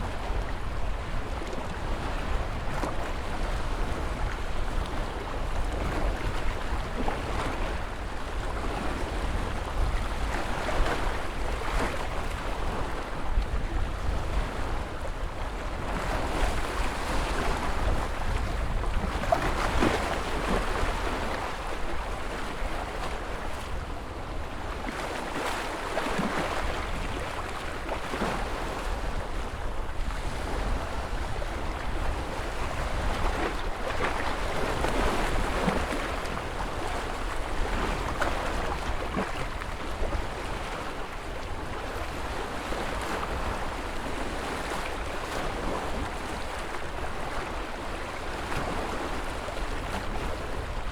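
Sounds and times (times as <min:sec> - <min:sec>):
low rumble of surf: 0:00.0 - 0:50.9
waves breaking: 0:00.0 - 0:50.9.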